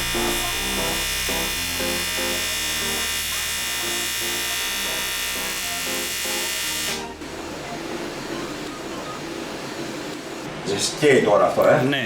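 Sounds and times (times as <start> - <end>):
background music: 0.0 - 10.1
welding arc buzzing: 0.0 - 10.5.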